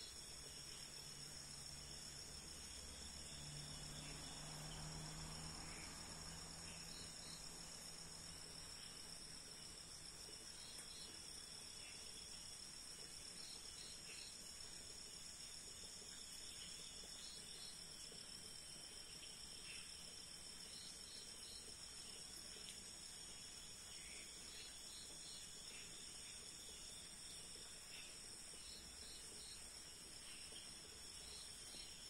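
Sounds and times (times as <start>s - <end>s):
crickets and night insects trilling: 0.0s - 32.0s.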